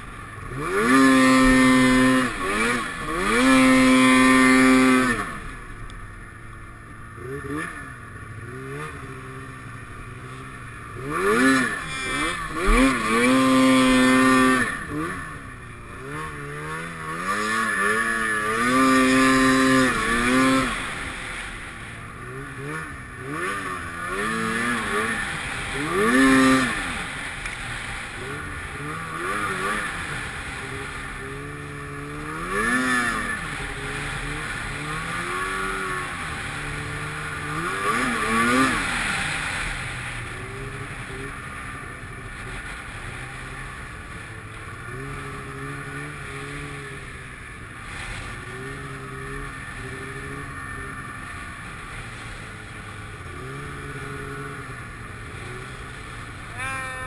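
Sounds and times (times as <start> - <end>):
snowmobile engine revving: 0.0 - 5.9, 6.8 - 57.0.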